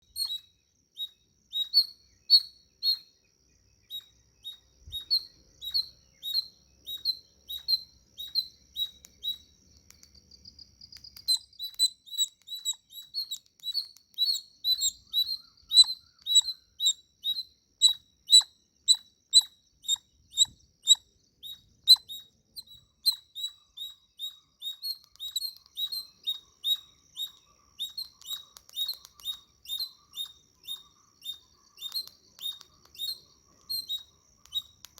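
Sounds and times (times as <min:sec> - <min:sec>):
chipmunk chip calls: 0:00.1 - 0:03.1, 0:03.9 - 0:10.2, 0:10.9 - 0:34.9.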